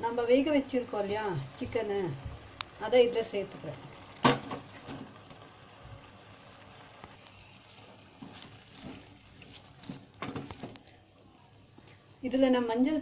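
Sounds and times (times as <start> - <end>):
chicken frying in oil: 0.0 - 13.0.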